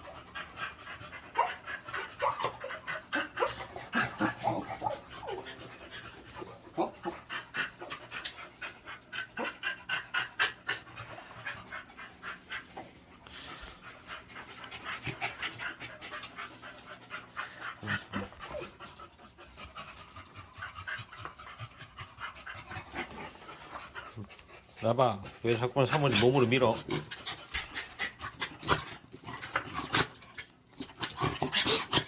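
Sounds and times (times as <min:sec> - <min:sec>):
dog panting: 0:00.0 - 0:32.0.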